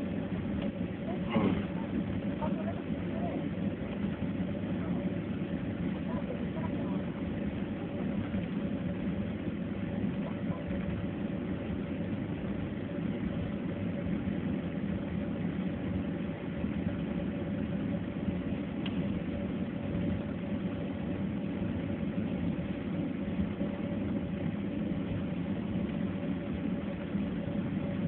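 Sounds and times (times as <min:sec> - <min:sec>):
jet engines humming: 0:00.0 - 0:28.0.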